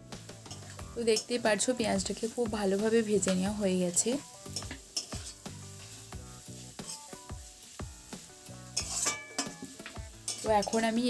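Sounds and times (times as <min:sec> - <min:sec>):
onions sizzling in oil: 0:00.0 - 0:11.0
soft background music: 0:00.0 - 0:11.0
spatula scraping pan: 0:00.3 - 0:03.5, 0:04.1 - 0:11.0.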